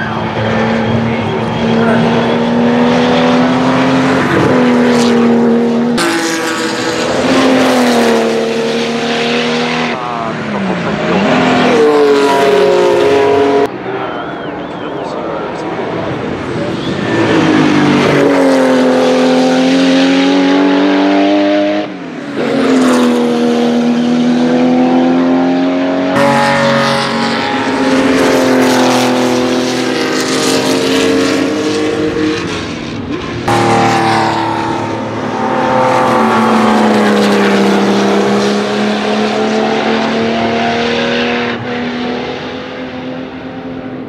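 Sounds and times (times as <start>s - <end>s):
race car engines passing at speed: 0.0s - 44.0s.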